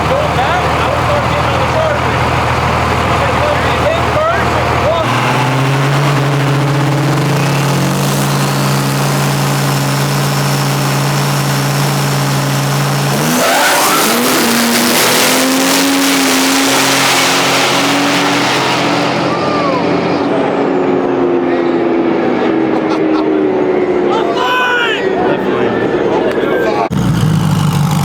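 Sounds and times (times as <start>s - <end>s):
rush of noise: 0.0s - 28.0s
truck engine revving: 0.0s - 28.0s.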